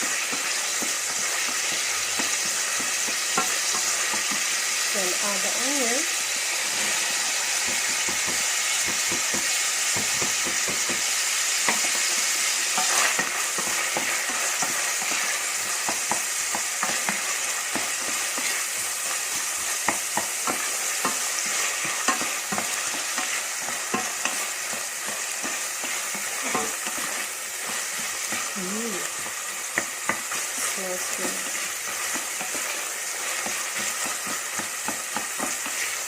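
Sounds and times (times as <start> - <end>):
onion sizzling in a pan: 0.0 - 36.0.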